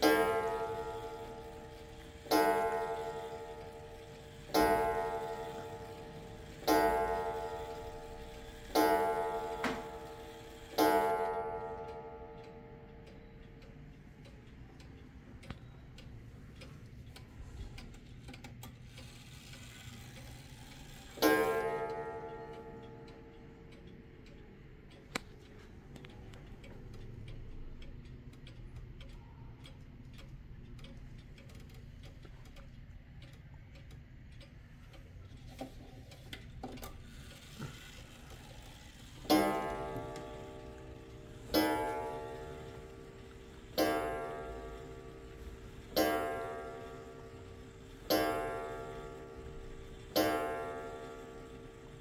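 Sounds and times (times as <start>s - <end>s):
wall clock ticking: 0.0s - 52.0s.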